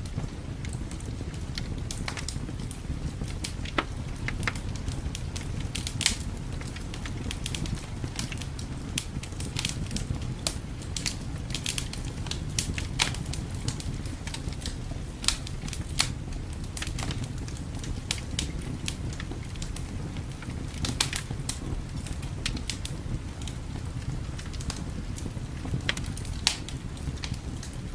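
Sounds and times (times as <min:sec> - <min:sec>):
fire pops and snaps: 0:00.0 - 0:27.9
wood fire crackling: 0:00.0 - 0:27.9.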